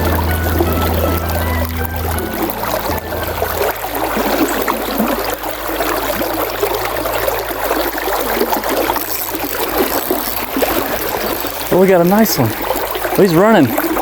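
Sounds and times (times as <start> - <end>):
river water splashing over rocks: 0.0 - 14.0.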